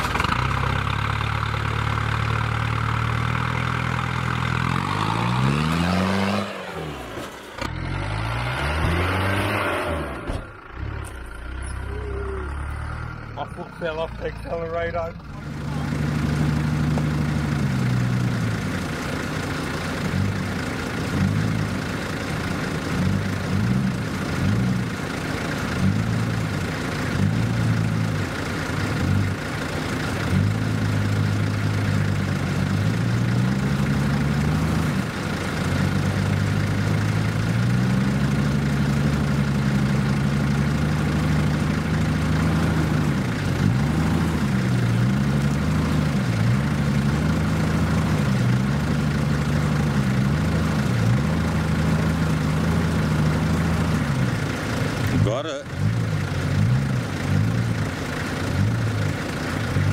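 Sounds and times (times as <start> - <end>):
off-road vehicle engine: 0.0 - 59.9.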